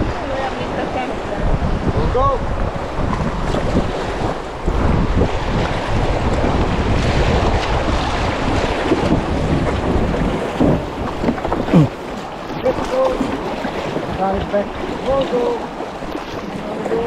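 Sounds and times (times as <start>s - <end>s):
paddles splashing: 0.0s - 17.0s
water rushing: 0.0s - 17.0s
wind buffeting microphone: 0.0s - 17.0s.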